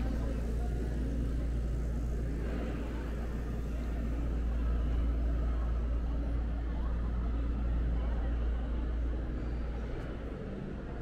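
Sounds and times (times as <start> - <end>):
low ambient rumble: 0.0 - 11.0.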